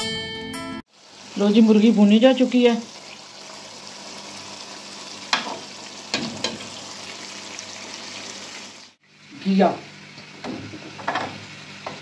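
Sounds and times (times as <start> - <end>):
chicken sizzling in oil: 0.9 - 12.0.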